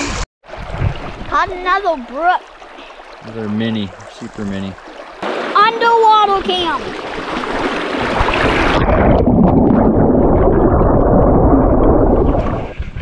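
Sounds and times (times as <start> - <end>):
underwater rushing and bubbling: 0.0 - 13.0
water splashing: 0.0 - 13.0.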